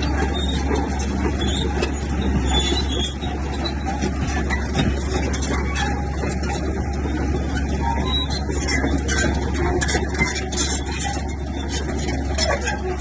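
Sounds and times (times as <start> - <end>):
bulldozer engine rumbling: 0.0 - 13.0
rattling and clattering: 0.0 - 13.0.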